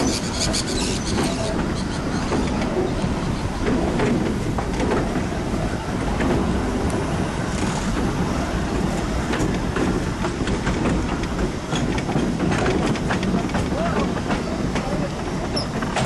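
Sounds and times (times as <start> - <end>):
train rumbling on rails: 0.0 - 16.0
wheels clacking over rail joints: 0.0 - 16.0.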